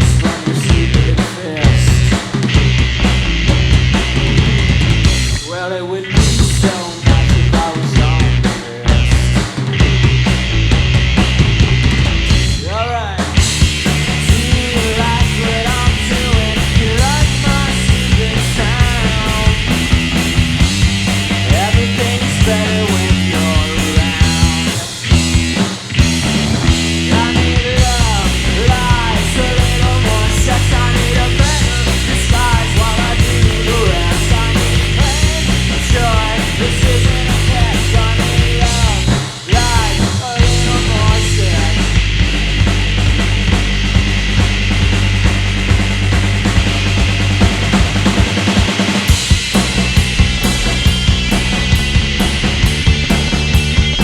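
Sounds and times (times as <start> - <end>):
rock band playing: 0.0 - 54.0.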